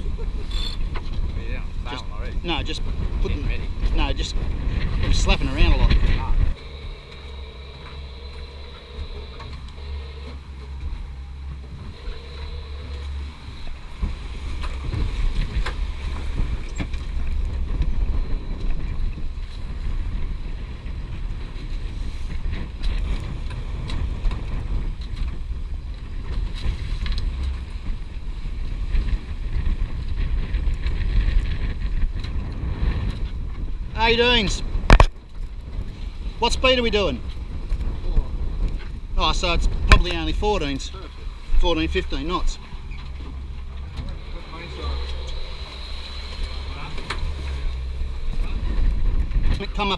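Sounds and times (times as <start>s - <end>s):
water rushing past boat: 0.0s - 49.9s
wind buffeting microphone: 0.0s - 49.9s.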